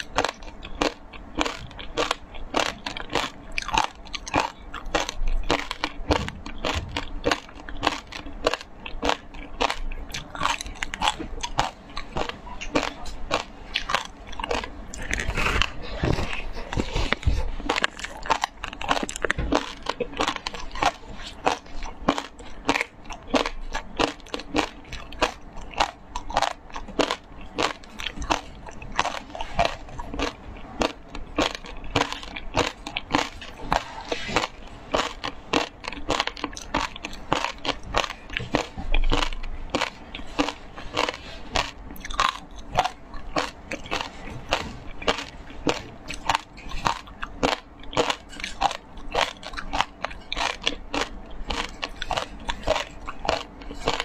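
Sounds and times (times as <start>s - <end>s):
chewing crunchy shaved ice: 0.0s - 54.0s.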